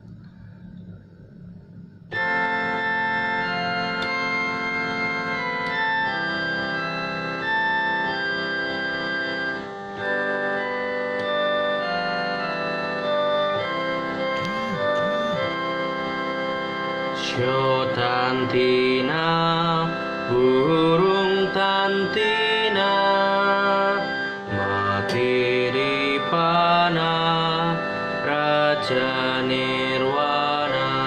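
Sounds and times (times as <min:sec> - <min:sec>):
organ keyboard music: 0:00.0 - 0:31.0.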